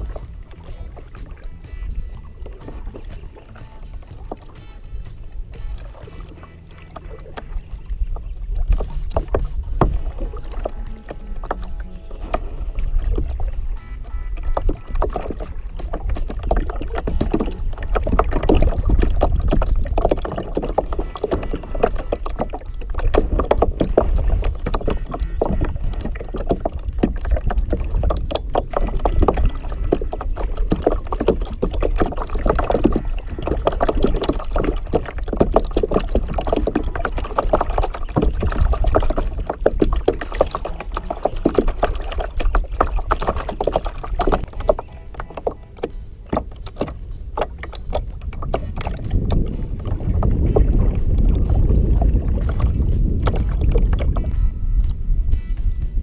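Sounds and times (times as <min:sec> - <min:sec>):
water lapping against a kayak: 0:00.0 - 0:56.0
wind rumble on microphone: 0:00.0 - 0:56.0.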